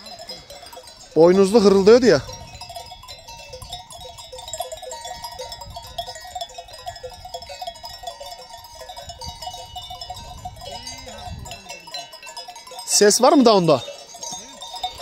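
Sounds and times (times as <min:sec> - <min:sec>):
sheep bells clanking: 0:00.0 - 0:15.0.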